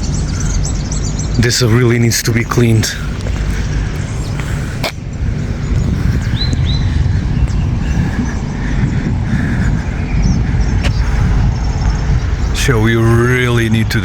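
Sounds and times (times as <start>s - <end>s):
high bird chirps: 0.0s - 2.1s, 2.8s - 14.0s
steady low rumble: 0.0s - 14.0s.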